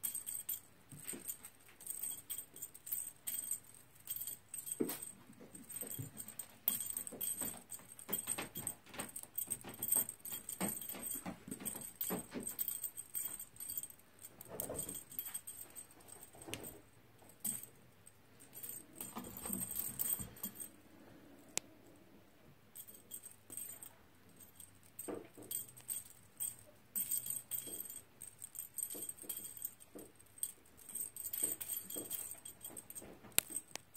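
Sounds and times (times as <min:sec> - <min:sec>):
small bell jingling: 0:00.0 - 0:20.9, 0:22.7 - 0:33.9.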